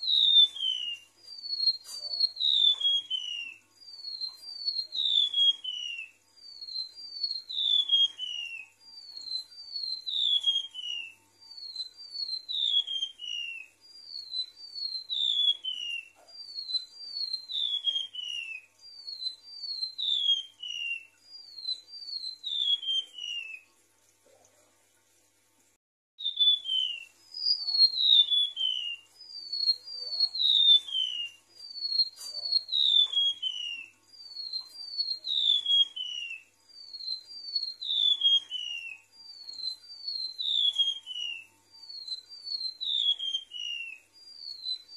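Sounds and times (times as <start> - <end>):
high whistled birdsong: 0.0 - 23.8, 26.2 - 44.9.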